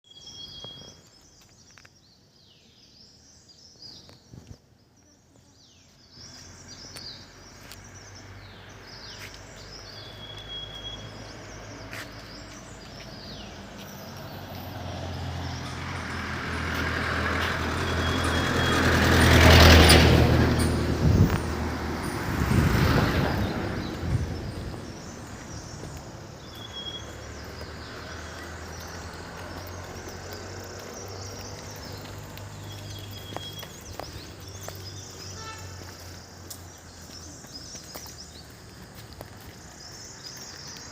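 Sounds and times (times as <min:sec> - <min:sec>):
motor vehicle passing by: 0:05.8 - 0:40.9.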